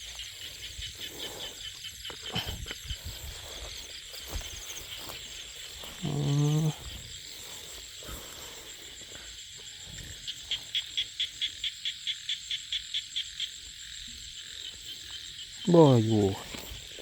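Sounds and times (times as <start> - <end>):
frog and insect chorus: 0.0 - 17.0.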